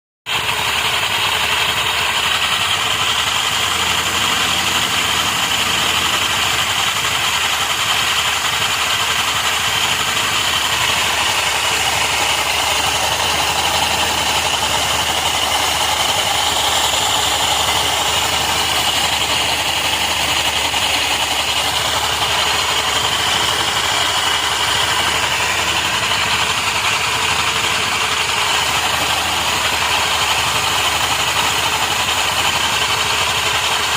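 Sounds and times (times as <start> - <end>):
scooter engine idling: 0.2 - 33.9.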